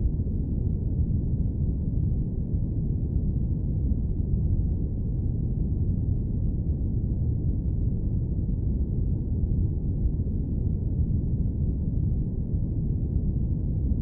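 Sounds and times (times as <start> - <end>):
airplane noise deep rumble: 0.0 - 14.0.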